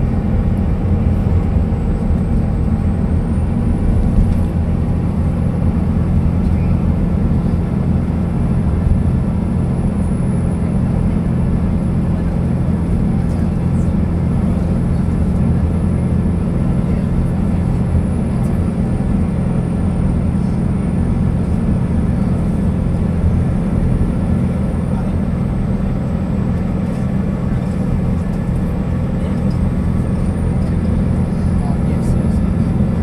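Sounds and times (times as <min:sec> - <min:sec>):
engine and road drone: 0:00.0 - 0:33.0.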